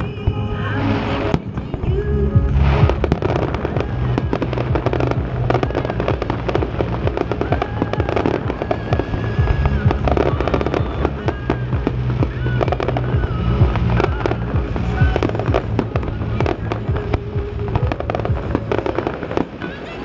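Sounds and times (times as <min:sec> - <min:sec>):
fireworks crackling and banging: 0:00.0 - 0:20.0
music playing: 0:00.0 - 0:20.0.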